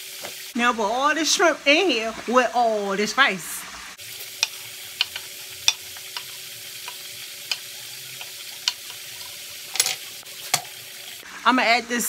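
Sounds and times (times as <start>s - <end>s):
food sizzling in oil in a frying pan: 0.0s - 12.0s.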